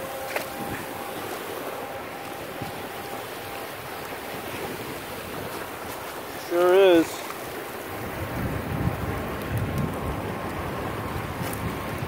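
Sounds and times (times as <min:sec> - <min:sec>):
seawater washing over rocks: 0:00.0 - 0:12.0
wind buffeting microphone: 0:00.0 - 0:12.0.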